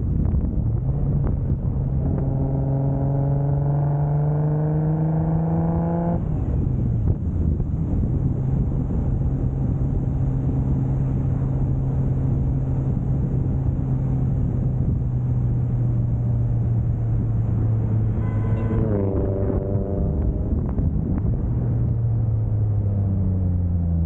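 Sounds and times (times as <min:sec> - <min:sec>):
car engine droning: 0:00.0 - 0:24.0
tyre and road noise: 0:00.0 - 0:24.0.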